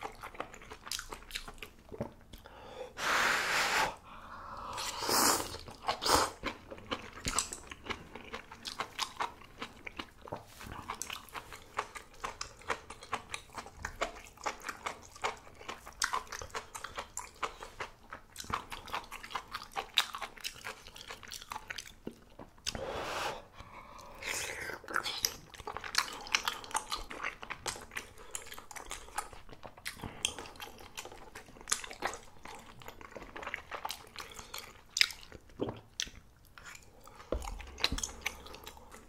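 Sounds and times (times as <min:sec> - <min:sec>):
chewing food with wet smacks: 0:00.0 - 0:02.5, 0:04.8 - 0:22.8, 0:23.9 - 0:39.0.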